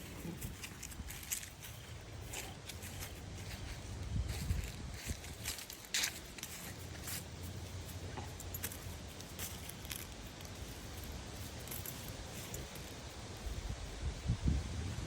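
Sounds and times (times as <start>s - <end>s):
crunching footsteps: 0.0s - 13.4s
steady low rumble: 0.0s - 15.0s.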